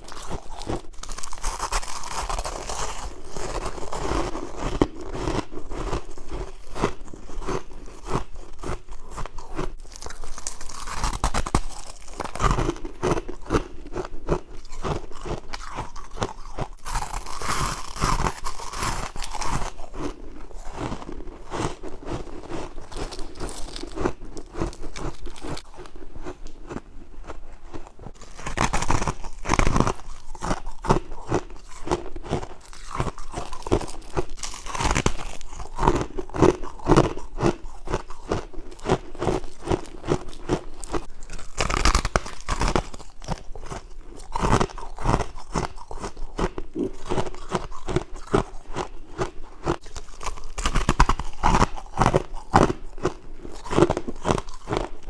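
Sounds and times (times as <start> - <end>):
person crunching frost: 0.0 - 55.0.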